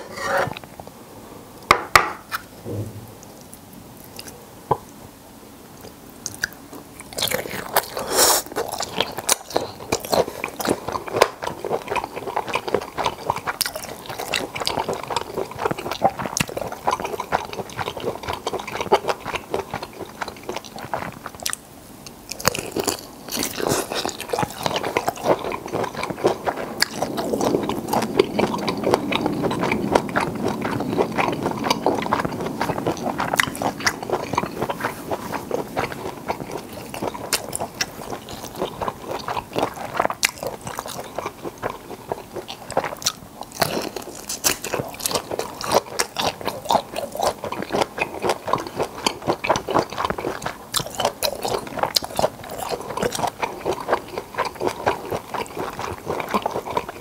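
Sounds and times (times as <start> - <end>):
wet chewing mouth sounds: 5.8 - 57.0.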